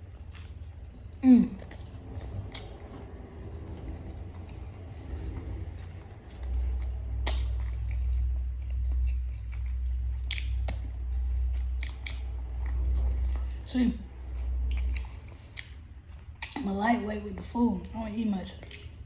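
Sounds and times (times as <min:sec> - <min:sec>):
chewing crispy chicken: 0:00.0 - 0:16.7
steady low hum: 0:00.0 - 0:19.0.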